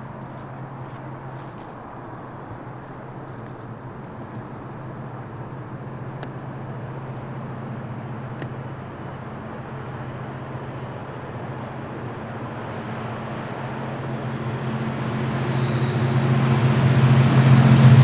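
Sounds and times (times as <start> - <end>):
diesel locomotive engine humming: 0.0 - 18.0.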